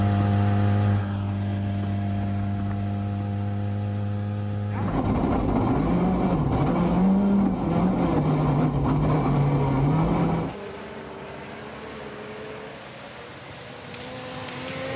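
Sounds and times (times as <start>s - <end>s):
rally car engine: 0.0s - 14.9s.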